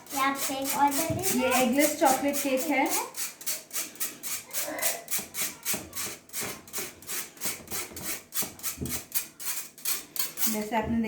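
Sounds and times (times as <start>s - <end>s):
powder sifted through mesh strainer: 0.0s - 10.8s.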